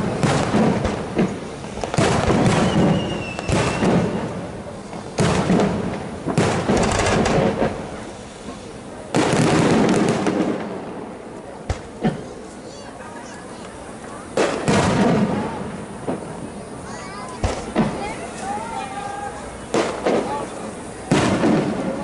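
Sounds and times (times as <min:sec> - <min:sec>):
firework crackle: 0:00.0 - 0:22.0
fireworks booming: 0:00.0 - 0:22.0.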